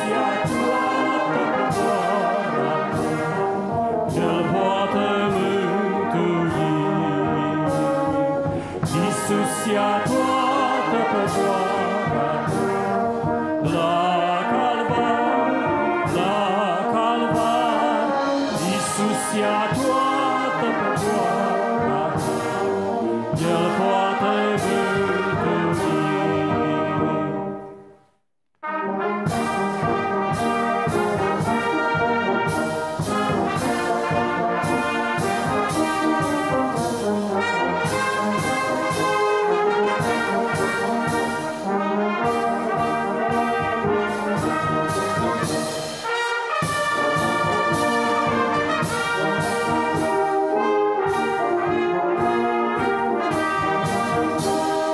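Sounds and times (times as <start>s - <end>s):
brass band playing a hymn: 0.0s - 54.9s.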